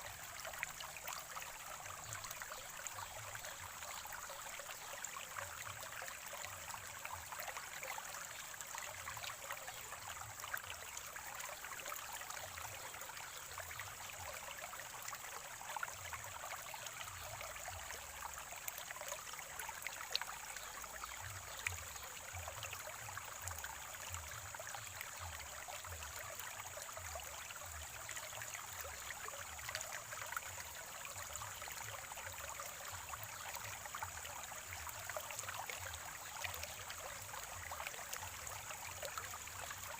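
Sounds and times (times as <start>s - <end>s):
water splashes and drips: 0.0s - 39.9s
water trickling over stones: 0.0s - 39.9s.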